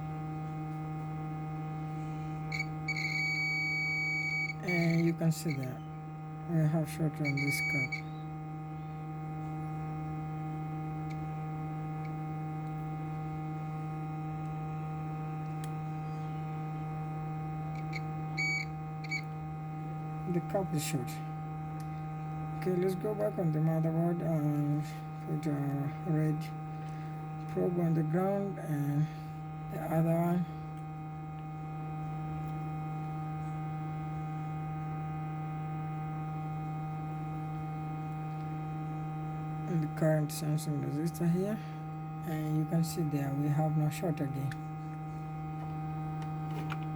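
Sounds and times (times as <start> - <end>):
electrical mains hum: 0.0 - 46.9.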